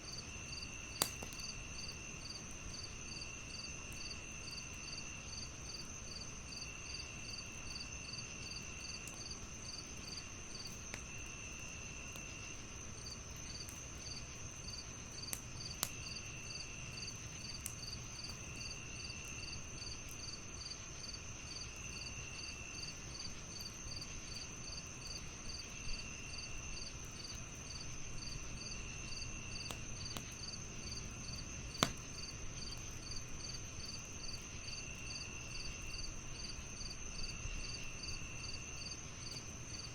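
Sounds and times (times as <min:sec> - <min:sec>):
crickets chirping: 0:00.0 - 0:39.9
wood fire popping and crackling: 0:00.1 - 0:39.9.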